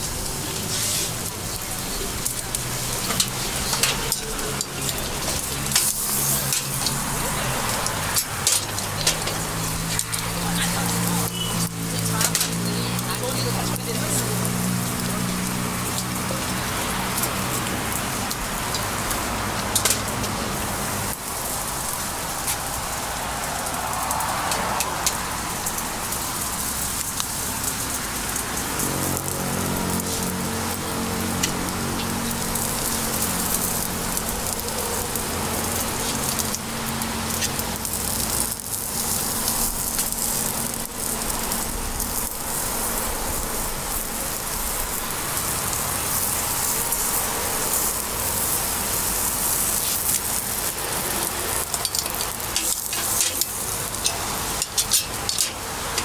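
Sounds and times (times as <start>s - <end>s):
crackling hiss of heating molds: 0.0s - 56.0s.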